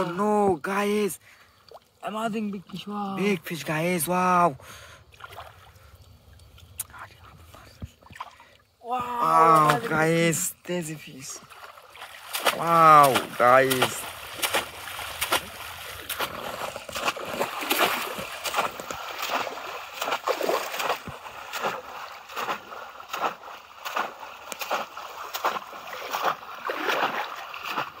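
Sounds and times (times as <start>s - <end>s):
pond water splashing: 0.0s - 28.0s.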